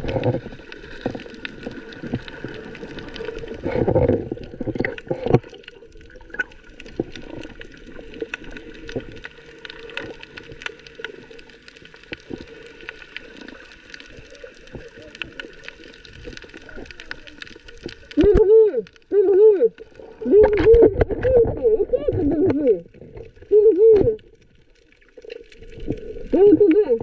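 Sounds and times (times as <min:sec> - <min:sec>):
crackling clicks underwater: 0:00.0 - 0:27.0
muffled underwater water movement: 0:00.0 - 0:27.0
water swishes and thumps: 0:00.0 - 0:27.0.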